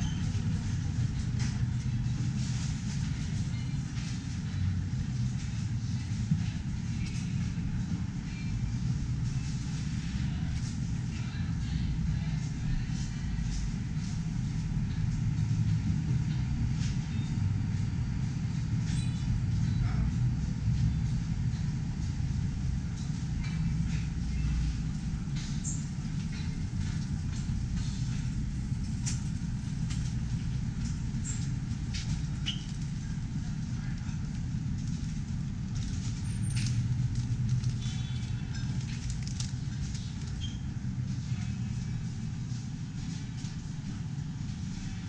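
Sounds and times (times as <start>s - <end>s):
low rumbling store ambience: 0.0s - 45.0s.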